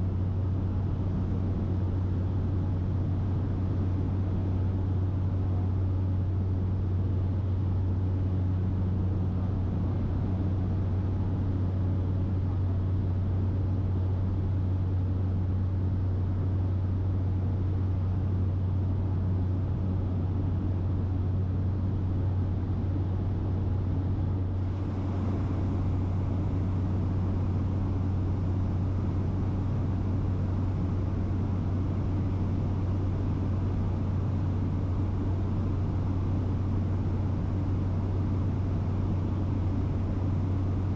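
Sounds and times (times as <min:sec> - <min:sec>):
propeller plane cabin drone: 0:00.0 - 0:40.9.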